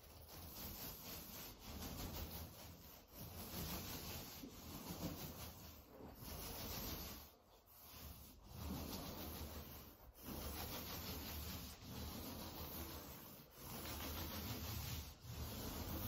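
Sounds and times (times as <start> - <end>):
paint roller rubbing on wall: 0.0 - 16.0.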